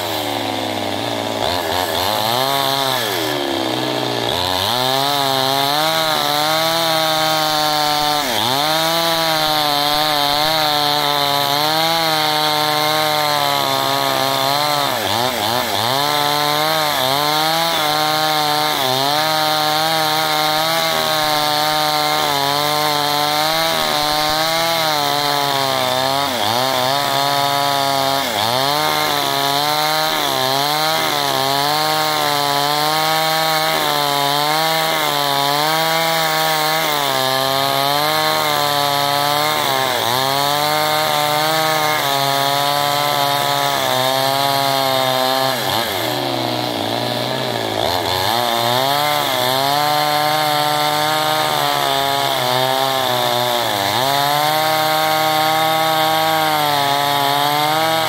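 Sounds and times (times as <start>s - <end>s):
chainsaw ripping a log: 0.0s - 58.0s.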